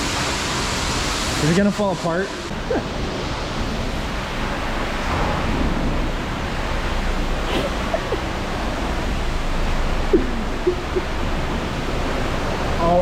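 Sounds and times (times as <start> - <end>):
water jet spraying: 0.0 - 13.0.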